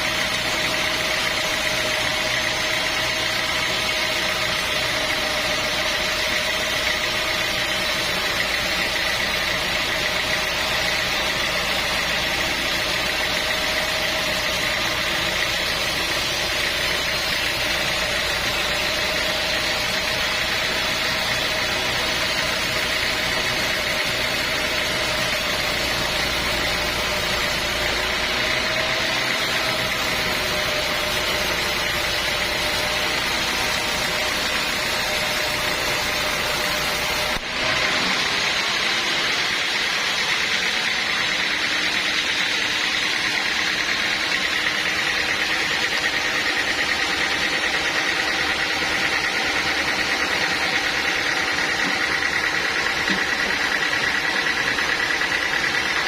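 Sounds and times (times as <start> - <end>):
machinery whine: 0.0 - 56.0
sawmill machinery drone: 0.0 - 56.0.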